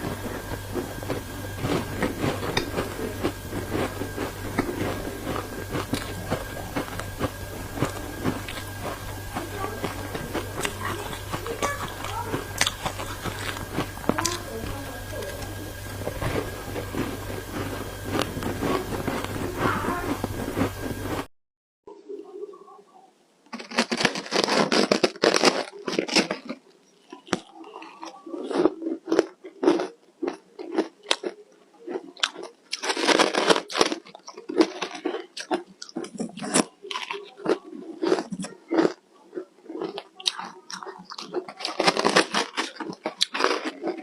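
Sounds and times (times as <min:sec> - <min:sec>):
ice being chewed: 0:00.0 - 0:21.3, 0:23.5 - 0:44.0.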